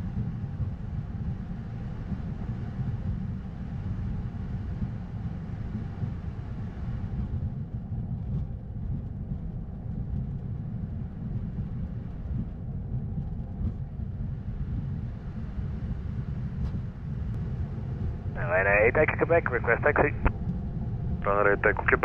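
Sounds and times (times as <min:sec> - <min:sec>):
jet engines idling rumble: 0:00.1 - 0:22.0.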